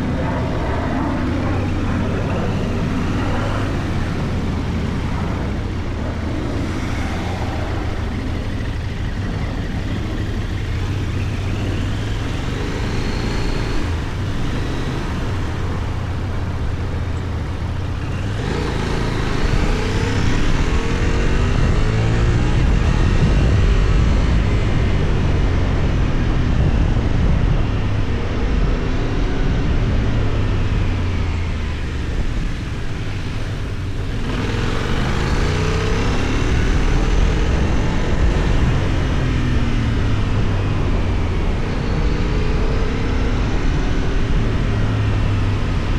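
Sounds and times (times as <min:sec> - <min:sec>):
motorcycle engine accelerating: 0:00.0 - 0:45.9
wind and road noise: 0:00.0 - 0:45.9.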